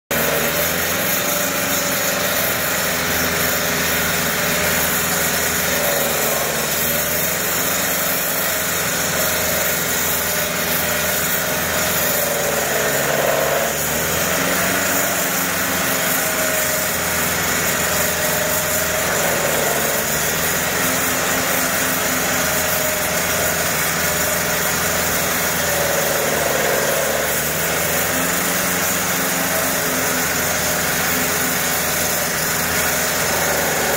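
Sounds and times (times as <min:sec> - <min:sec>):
blade grinding concrete: 0:00.1 - 0:33.9
saw engine under load: 0:00.1 - 0:33.9.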